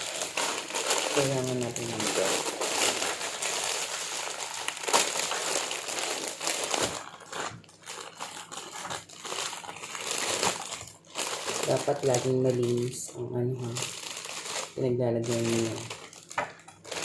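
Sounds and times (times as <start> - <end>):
thin plastic crinkling: 0.0 - 17.0.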